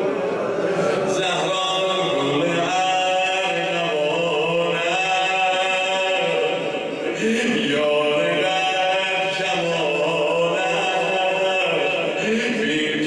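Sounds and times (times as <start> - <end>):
man chanting melodically: 1.0 - 13.0.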